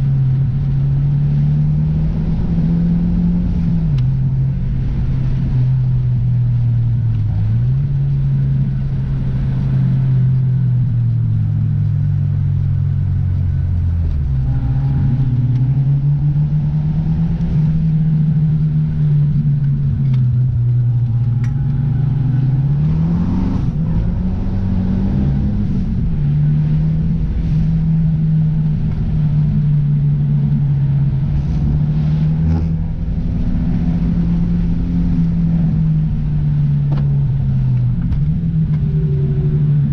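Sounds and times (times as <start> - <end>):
car engine running: 0.0 - 39.9
road rumble: 0.0 - 39.9.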